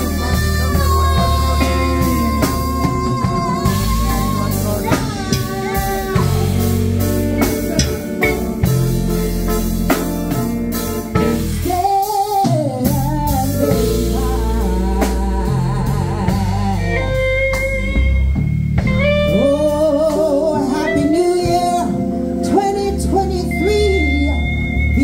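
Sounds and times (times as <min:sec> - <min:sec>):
woman singing into microphone: 0:00.0 - 0:08.3, 0:11.4 - 0:18.0, 0:19.0 - 0:24.4
live band with guitar and drums: 0:00.0 - 0:25.0.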